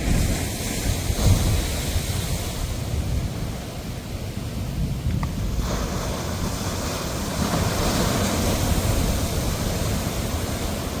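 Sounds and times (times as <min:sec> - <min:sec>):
sea waves breaking: 0:00.0 - 0:11.0.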